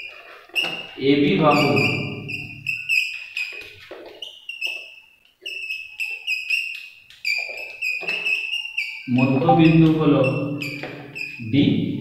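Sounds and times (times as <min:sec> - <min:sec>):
chalk squeaking on blackboard: 0:00.0 - 0:12.0.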